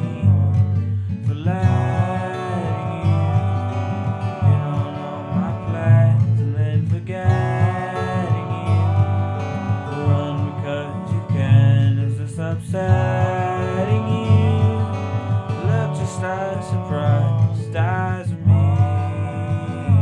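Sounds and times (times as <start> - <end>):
guitar-led instrumental music: 0.0 - 20.0.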